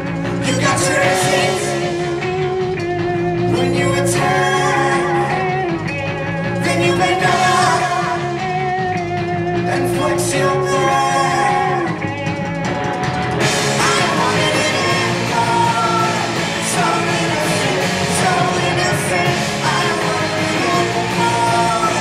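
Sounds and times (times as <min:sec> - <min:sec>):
punk rock band playing live: 0:00.0 - 0:22.0.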